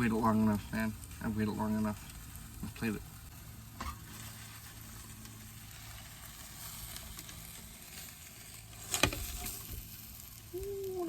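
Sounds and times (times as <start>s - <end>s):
omelet sizzling in a pan: 0.0s - 11.0s.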